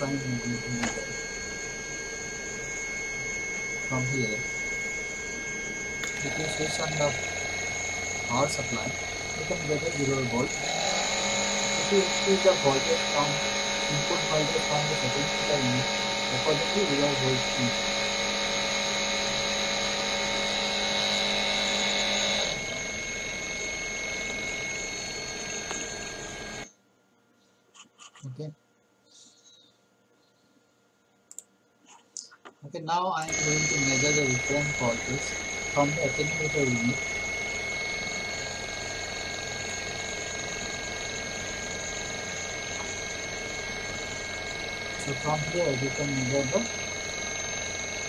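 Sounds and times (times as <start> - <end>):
electric motor whine: 0.0 - 26.7, 33.2 - 48.0.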